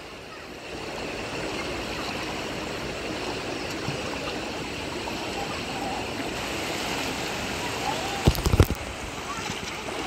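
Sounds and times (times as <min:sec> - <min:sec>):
river flowing over stones: 0:00.0 - 0:10.0.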